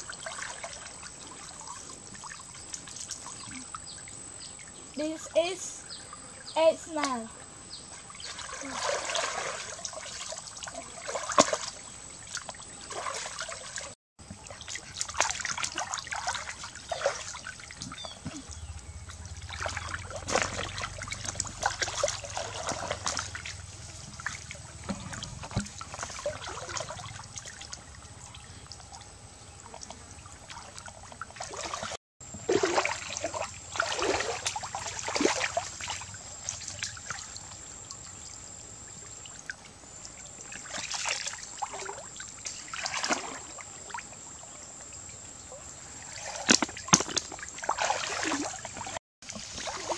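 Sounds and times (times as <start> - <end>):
pond water splashing: 0.0 - 49.9.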